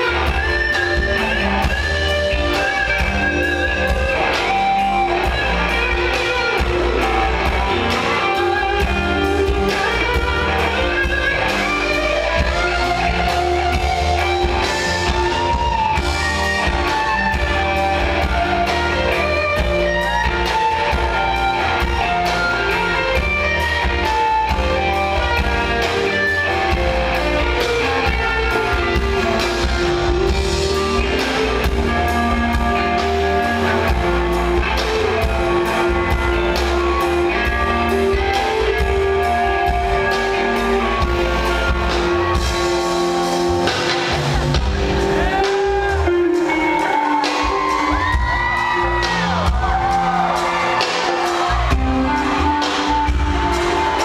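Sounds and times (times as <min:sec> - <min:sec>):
bass guitar: 0:00.0 - 0:54.0
drums: 0:00.0 - 0:54.0
electric guitar solo: 0:00.0 - 0:54.0.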